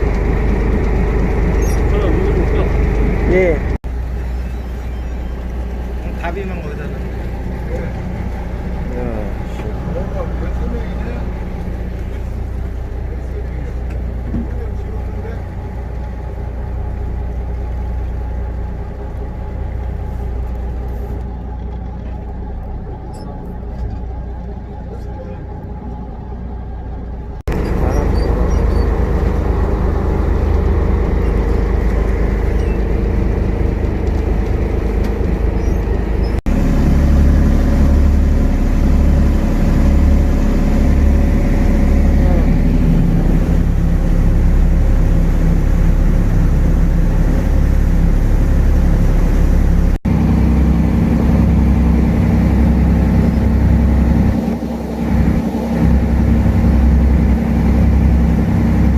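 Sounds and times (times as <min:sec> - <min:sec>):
boat engine droning: 0:00.0 - 0:58.9
water noise: 0:00.0 - 0:58.9.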